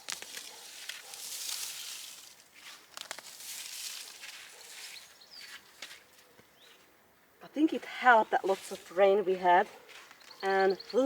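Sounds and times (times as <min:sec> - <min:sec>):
rustling of soil and dry foliage: 0:00.0 - 0:11.0.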